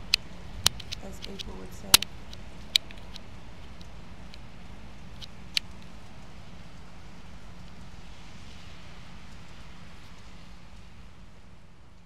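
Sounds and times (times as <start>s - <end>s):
low steady hum: 0.0s - 12.0s
wet snow pattering: 0.0s - 12.0s.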